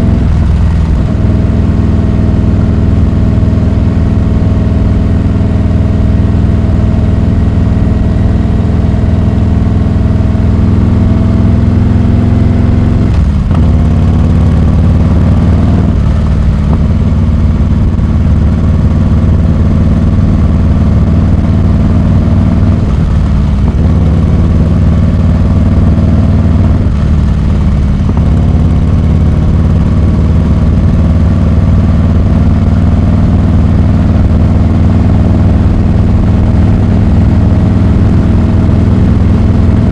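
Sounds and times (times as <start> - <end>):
loud motorcycle engine running: 0.0 - 39.9.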